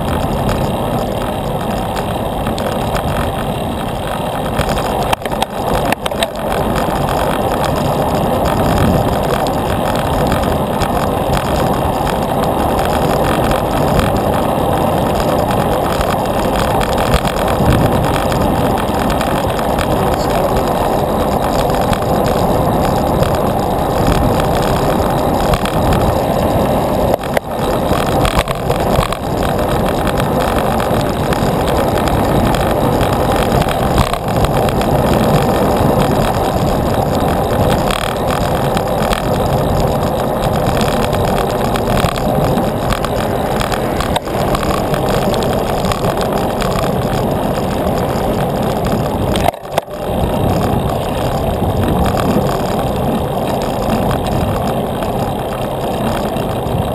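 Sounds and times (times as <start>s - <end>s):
bicycle tyres rolling on road: 0.0s - 56.9s
wind rushing on microphone: 0.0s - 56.9s.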